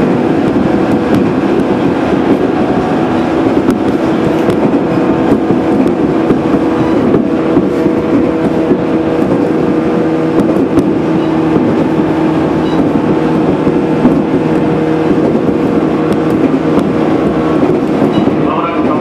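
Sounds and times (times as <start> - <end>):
rail joint clicks: 0.0 - 19.0
train cabin hum: 0.0 - 19.0
wheels rumbling on rails: 0.0 - 19.0.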